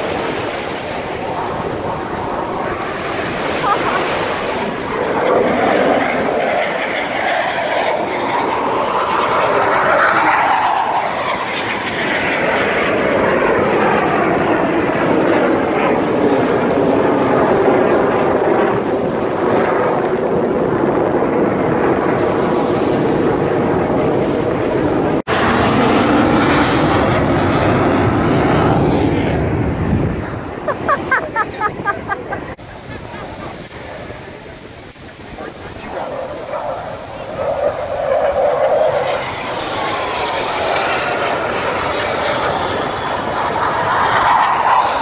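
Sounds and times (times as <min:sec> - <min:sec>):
fighter jet engine roar: 0:00.0 - 0:45.0
jet whine gliding down: 0:00.0 - 0:45.0.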